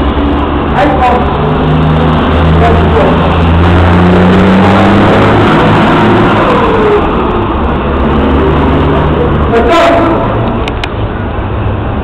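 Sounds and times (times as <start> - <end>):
truck diesel engine accelerating: 0.0 - 12.0.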